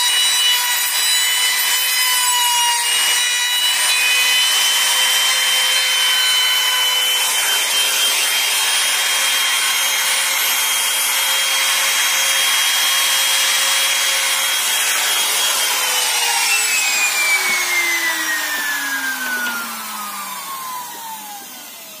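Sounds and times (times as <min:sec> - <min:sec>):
router whining cutting wood: 0:00.0 - 0:22.0.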